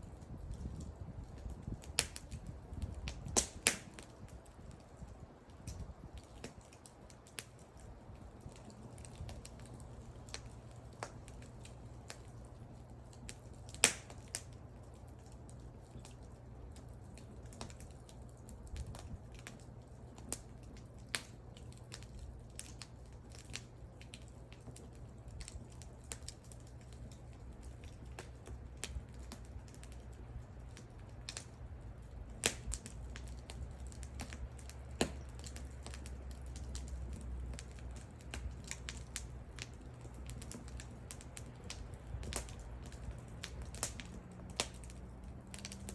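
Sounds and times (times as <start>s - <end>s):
low steady rumble: 0.0s - 45.9s
wood fire crackling: 0.0s - 45.9s.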